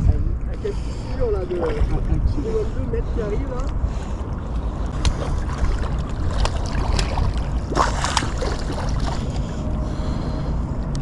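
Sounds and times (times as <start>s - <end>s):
rumble of wind and water: 0.0s - 11.0s.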